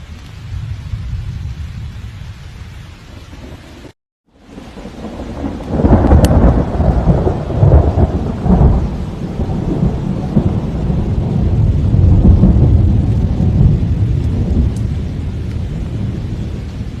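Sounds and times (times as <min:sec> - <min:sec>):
rushing floodwater rumble: 0:00.0 - 0:17.0.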